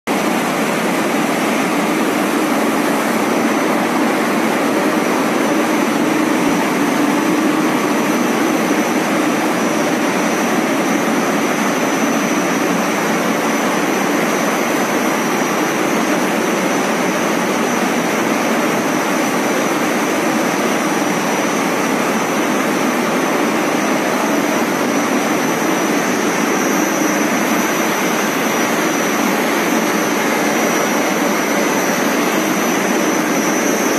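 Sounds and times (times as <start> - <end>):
coating machine running: 0.1 - 33.9
thin high whine: 0.1 - 33.9.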